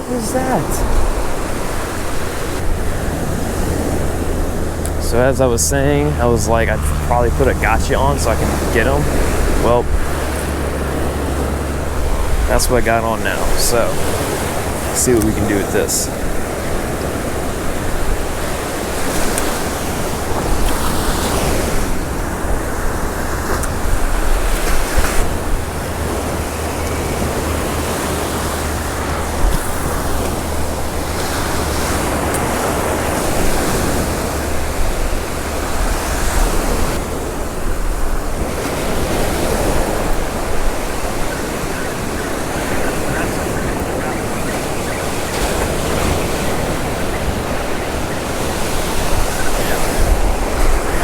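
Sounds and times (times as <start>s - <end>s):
surf breaking on beach: 0.0s - 51.0s
wind rumbling on microphone: 0.0s - 51.0s.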